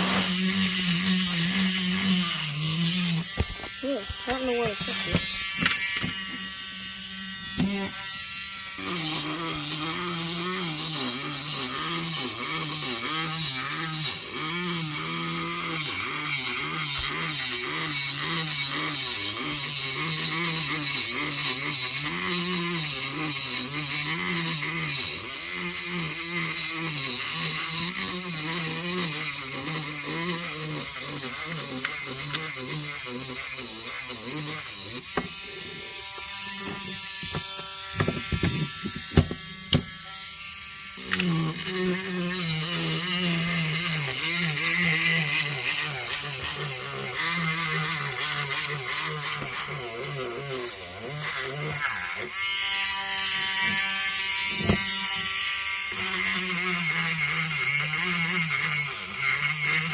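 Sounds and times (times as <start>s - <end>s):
small motor buzzing: 0.0s - 59.9s.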